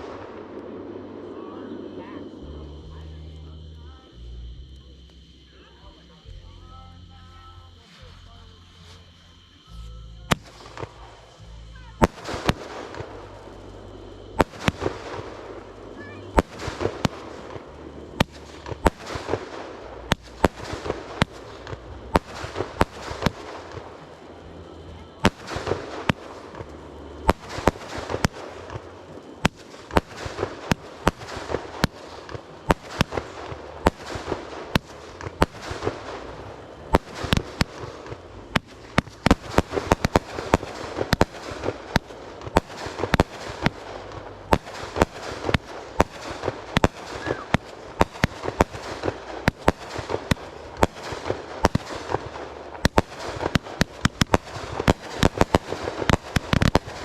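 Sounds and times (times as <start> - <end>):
fireworks pops and rumble: 0.0 - 1.4, 2.0 - 57.0
fireworks bangs: 0.0 - 57.0.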